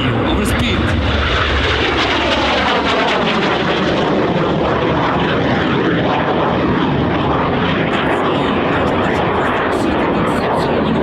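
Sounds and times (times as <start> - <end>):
jet engine passing overhead: 0.0 - 11.0.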